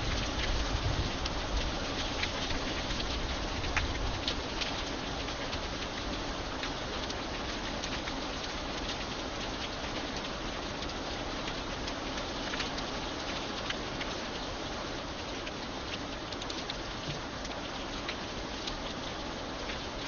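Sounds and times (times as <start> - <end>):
rain on iron bridge: 0.0 - 20.0.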